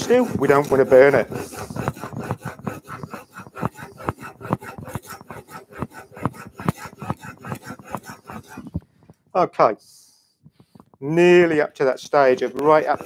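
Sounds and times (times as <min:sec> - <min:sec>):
chisel rasping on abrasive film: 0:00.0 - 0:08.9, 0:10.6 - 0:13.0.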